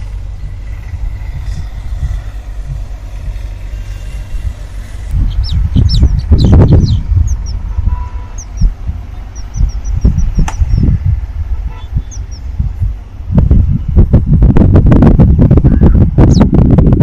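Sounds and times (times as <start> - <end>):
birds chirping: 0.0 - 13.3, 15.5 - 16.6
uneven low rumble: 0.0 - 17.0.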